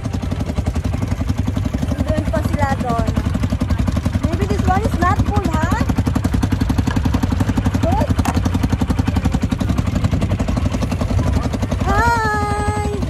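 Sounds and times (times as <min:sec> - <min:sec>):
quad bike engine idling: 0:00.0 - 0:13.0.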